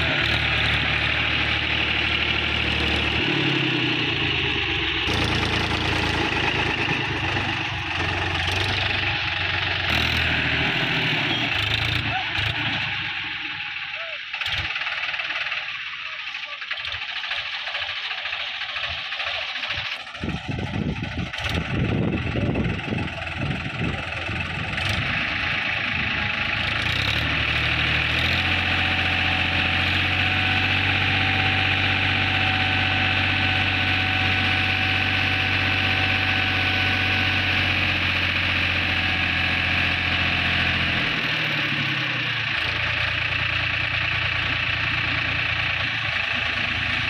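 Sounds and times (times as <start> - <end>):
diesel tractor engine: 0.0 - 47.0.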